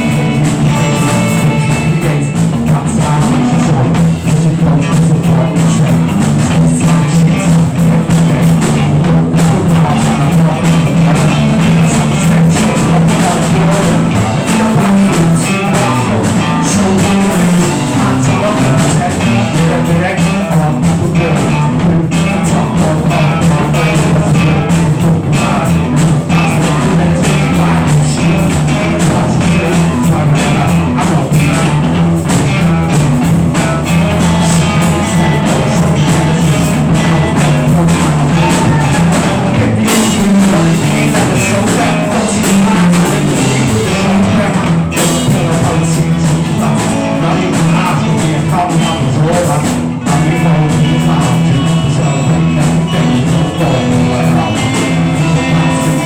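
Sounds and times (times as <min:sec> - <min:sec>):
drums: 0:00.0 - 0:56.0
electric guitar: 0:00.0 - 0:56.0
person singing: 0:00.0 - 0:56.0.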